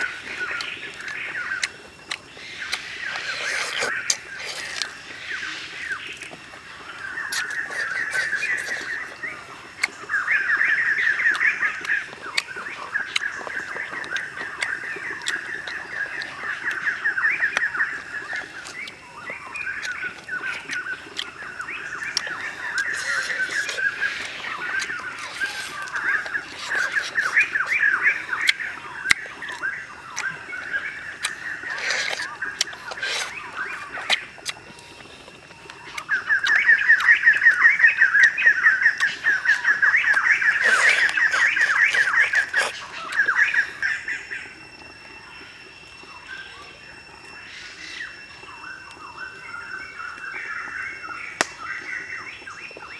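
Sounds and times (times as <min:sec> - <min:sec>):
chewing clicks and crunches: 0:00.0 - 0:47.3, 0:49.9 - 0:52.9
animals calling in pulsing trills: 0:00.0 - 0:52.9.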